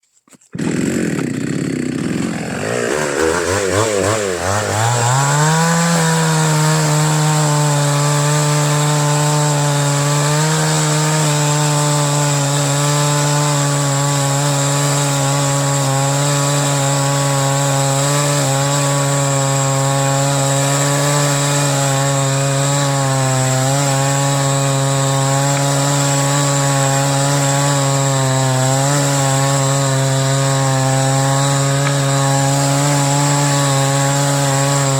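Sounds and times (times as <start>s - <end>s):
chainsaw cutting wood: 0.2s - 34.9s
chainsaw revving: 0.4s - 34.9s.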